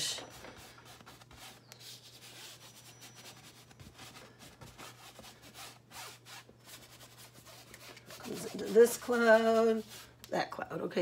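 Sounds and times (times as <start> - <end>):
paintbrush scratching on canvas: 0.2 - 10.2.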